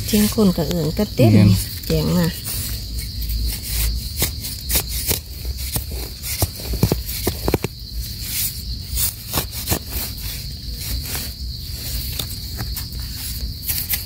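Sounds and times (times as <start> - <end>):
crackles and rustles of earth: 0.0 - 14.0
high insect drone: 0.0 - 14.0.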